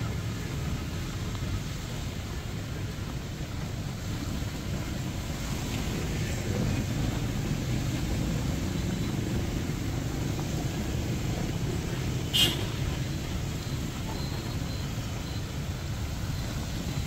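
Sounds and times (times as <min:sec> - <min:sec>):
heavy rain falling: 0:00.0 - 0:17.0
low rumble of passing traffic: 0:00.0 - 0:17.0.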